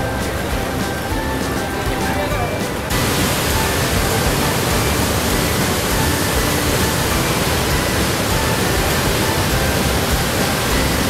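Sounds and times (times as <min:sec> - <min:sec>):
water crashing over rocks: 0:00.0 - 0:11.0.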